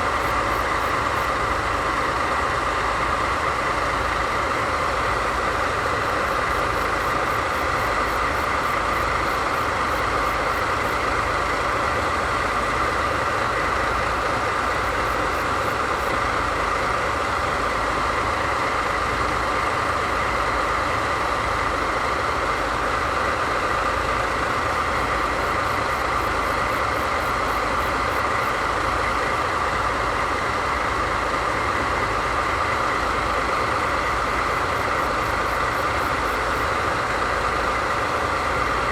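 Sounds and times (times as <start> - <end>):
diesel locomotive idling: 0.0 - 38.9.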